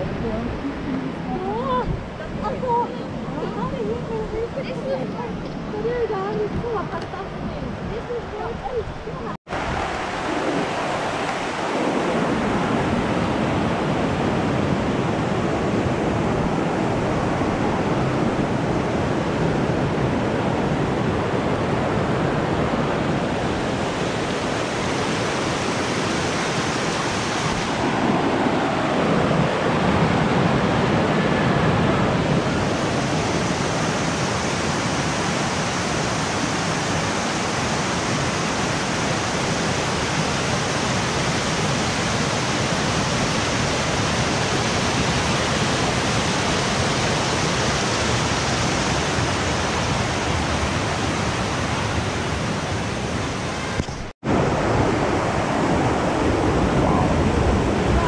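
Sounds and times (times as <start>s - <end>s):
cascading water rushing: 9.5s - 58.0s.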